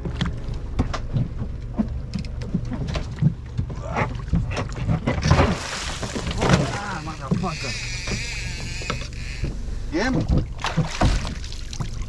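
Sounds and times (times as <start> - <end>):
boat engine humming: 0.0 - 12.0
knocks against hull: 0.0 - 12.0
water splashing against hull: 0.0 - 12.0.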